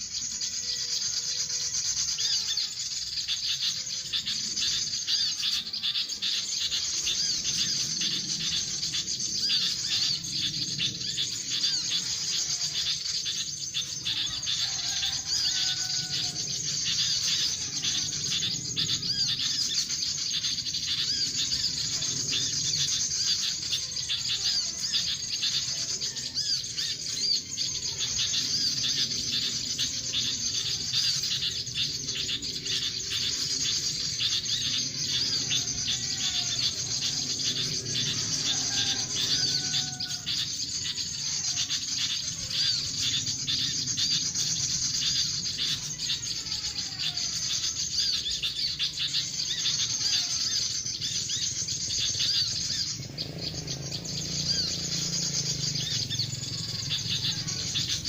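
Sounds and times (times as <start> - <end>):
birds and insects chirping: 0.0 - 58.0
whistled bird call: 0.0 - 58.0.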